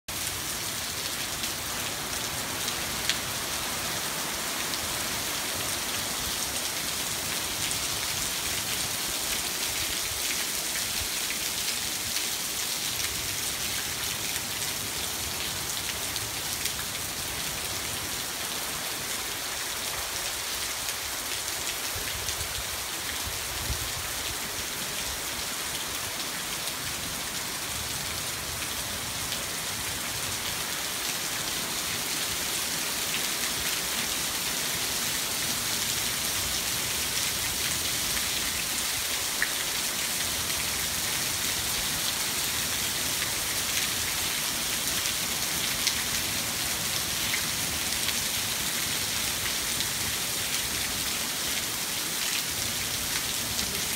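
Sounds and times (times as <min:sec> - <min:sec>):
heavy rain on foliage and paving: 0:00.0 - 0:53.9.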